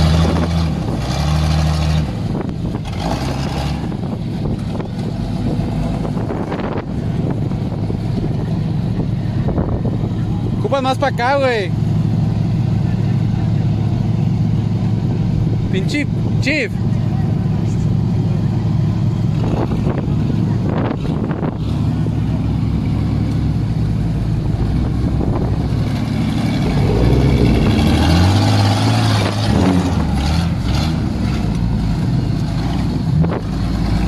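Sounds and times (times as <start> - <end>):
engine running and revving: 0.0 - 34.0.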